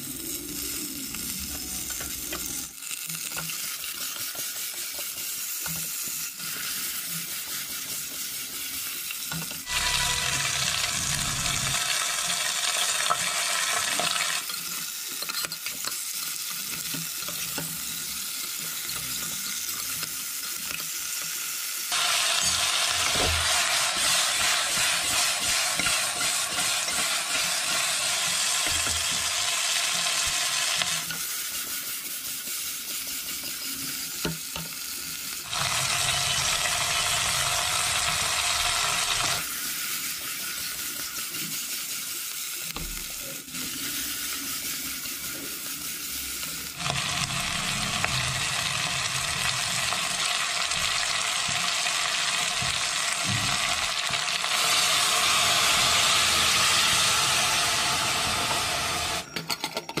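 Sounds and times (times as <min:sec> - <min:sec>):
pork and onions sizzling: 0:00.0 - 0:59.4.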